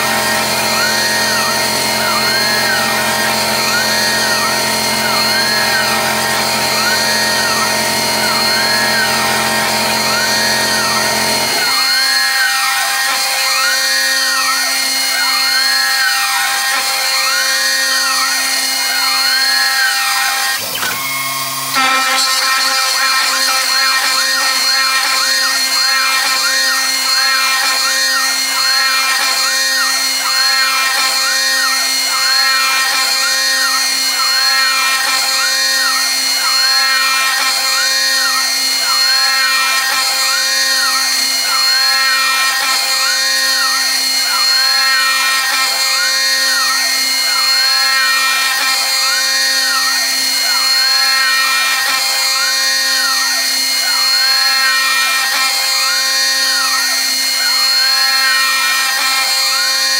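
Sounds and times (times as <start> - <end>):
cnc router milling metal: 0.0 - 59.9.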